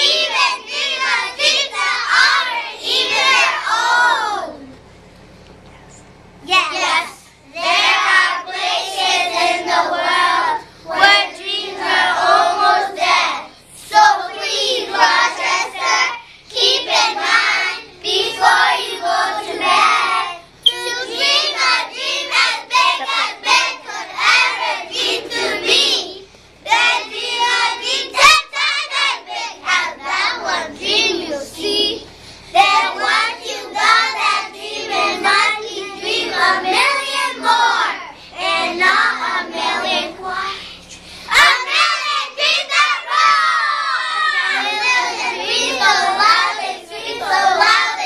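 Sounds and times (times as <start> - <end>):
children chanting in unison: 0.0 - 4.6, 6.7 - 48.0.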